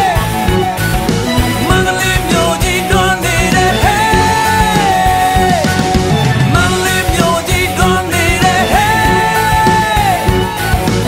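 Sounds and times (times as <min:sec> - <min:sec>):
song with band backing: 0:00.0 - 0:11.0.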